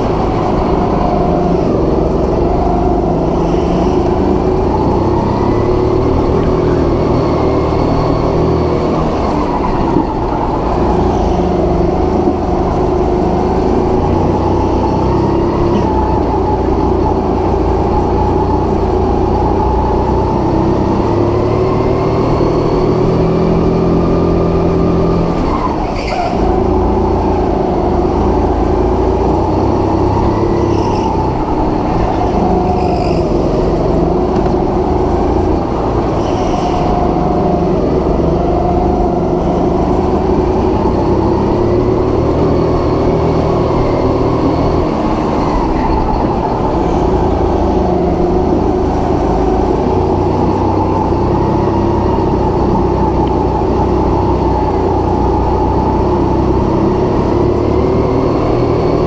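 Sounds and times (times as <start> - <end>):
go-kart engine racing: 0.0 - 59.0.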